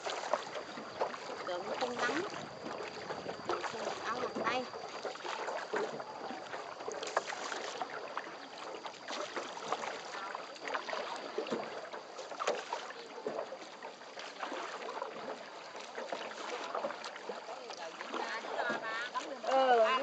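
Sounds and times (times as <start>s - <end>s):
oar splashes: 0.0s - 20.0s
water lapping around boat: 0.0s - 20.0s.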